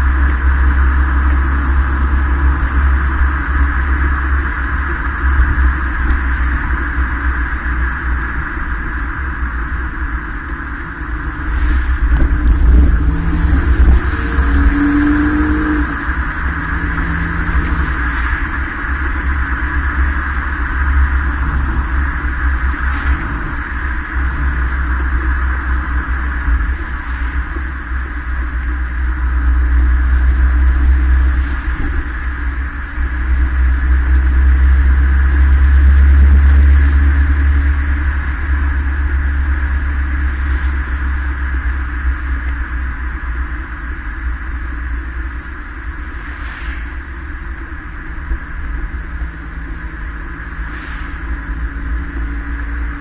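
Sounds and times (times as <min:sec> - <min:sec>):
car exhaust rumble: 0:00.0 - 0:53.0
road and wind noise: 0:00.0 - 0:53.0.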